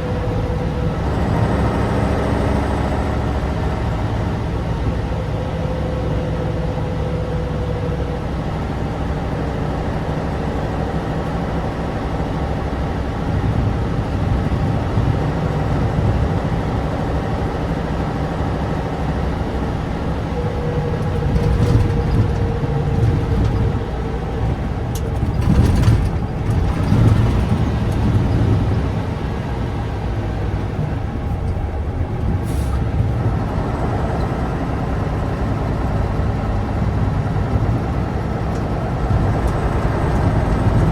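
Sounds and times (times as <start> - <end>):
diesel truck engine drone: 0.0 - 40.9.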